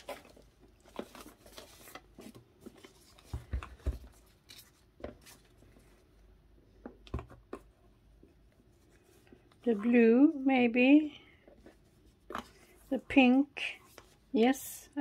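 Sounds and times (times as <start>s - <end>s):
rustling materials: 0.0s - 6.3s, 7.1s - 14.7s.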